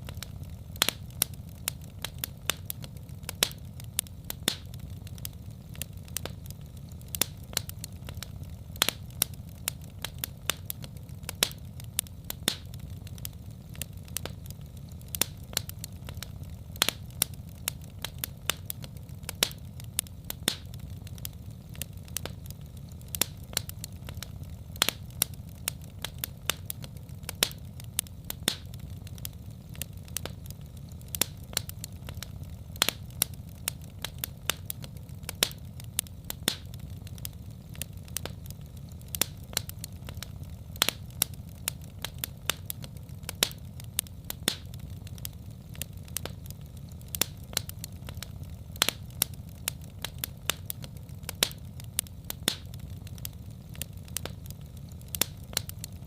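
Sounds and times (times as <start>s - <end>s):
burning logs popping: 0.0s - 56.0s
fire flames rumbling: 0.0s - 56.0s.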